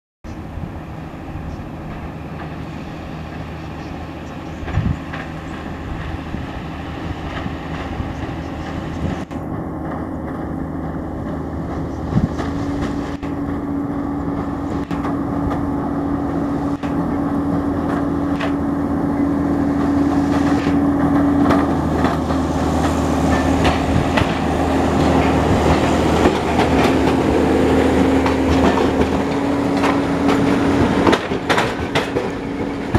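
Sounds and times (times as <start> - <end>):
tram passing: 0.3 - 32.9.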